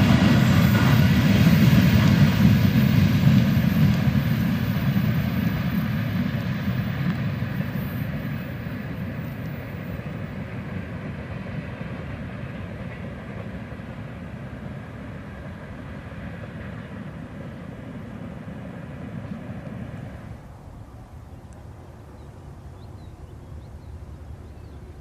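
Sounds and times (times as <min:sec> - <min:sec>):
train wheels rumbling on rail: 0:00.0 - 0:20.6.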